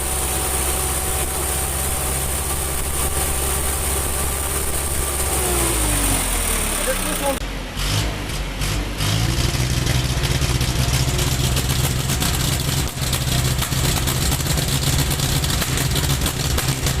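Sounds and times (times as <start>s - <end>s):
diesel engine idling with misfire: 0.0s - 17.0s.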